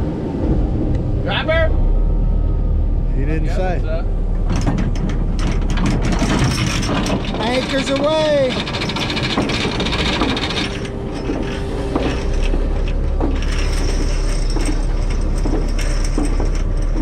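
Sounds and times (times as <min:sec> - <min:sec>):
boat engines rumbling: 0:00.0 - 0:17.0.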